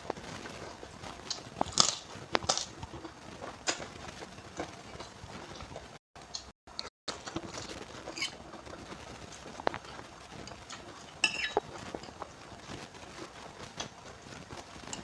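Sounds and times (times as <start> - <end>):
chewing crunchy food: 0.0 - 15.0.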